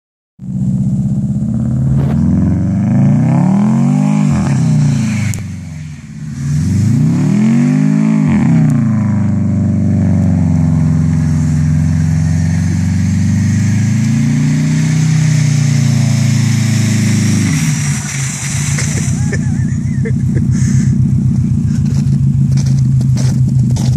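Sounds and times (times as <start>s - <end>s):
car engine revving hard: 1.4s - 22.0s.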